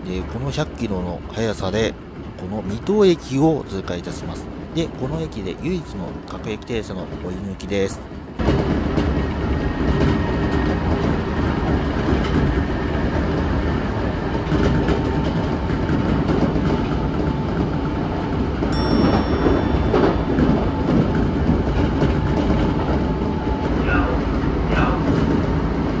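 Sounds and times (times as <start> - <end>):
rail joint clickety-clack: 0.0 - 26.0
train wheels rumbling on rail: 0.0 - 26.0.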